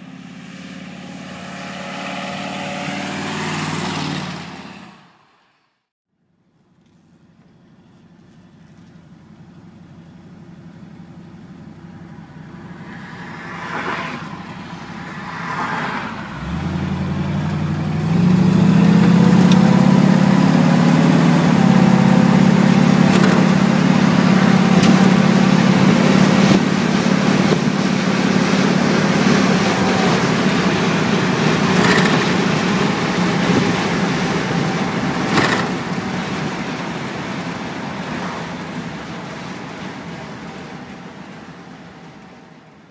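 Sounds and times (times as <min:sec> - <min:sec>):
truck engine accelerating: 0:00.0 - 0:05.8, 0:06.8 - 0:42.9
wind and road noise: 0:00.0 - 0:42.9.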